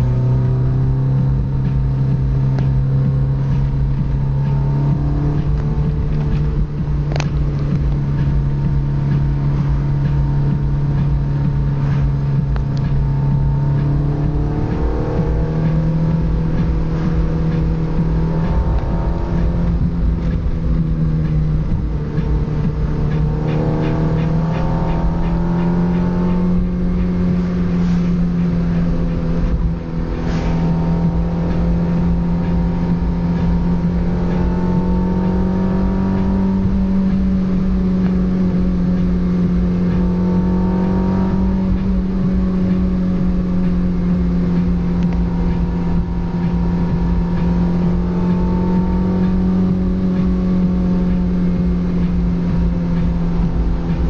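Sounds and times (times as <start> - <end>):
car engine and exhaust droning: 0.0 - 54.0.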